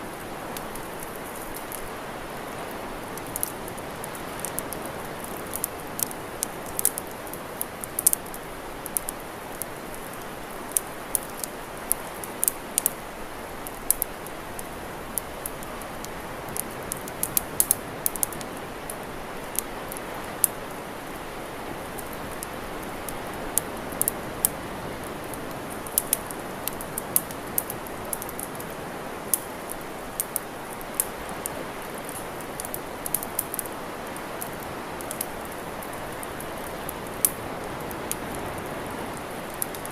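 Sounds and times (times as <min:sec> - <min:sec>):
campfire crackling and popping: 0:00.0 - 0:39.9
steady fire hiss: 0:00.0 - 0:39.9.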